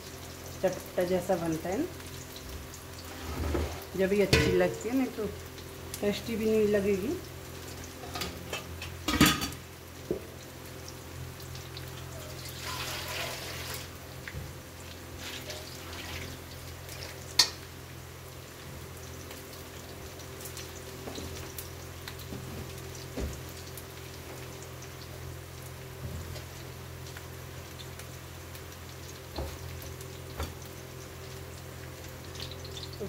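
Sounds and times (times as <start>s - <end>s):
potatoes frying in oil: 0.0s - 33.0s.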